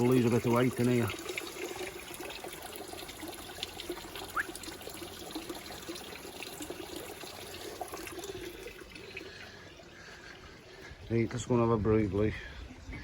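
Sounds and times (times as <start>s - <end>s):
water trickling into a pond: 0.0s - 13.0s.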